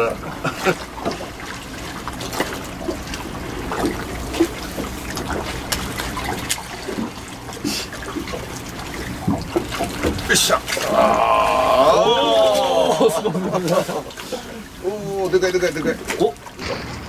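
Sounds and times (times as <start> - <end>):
small splashes: 0.0 - 17.0
water lapping against boat hull: 0.0 - 17.0.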